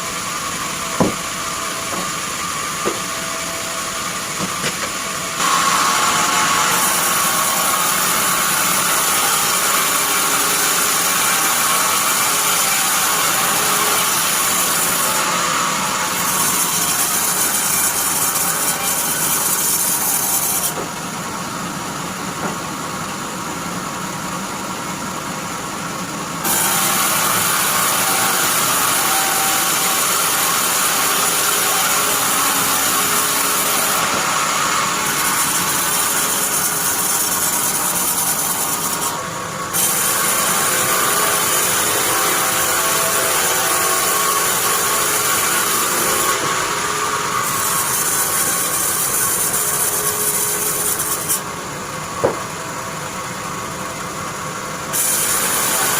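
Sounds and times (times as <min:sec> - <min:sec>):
bandsaw running hum: 0:00.0 - 0:25.1, 0:26.2 - 0:55.9
saw blade cutting wood: 0:00.9 - 0:03.6, 0:04.3 - 0:21.0, 0:26.4 - 0:51.5, 0:54.9 - 0:55.9.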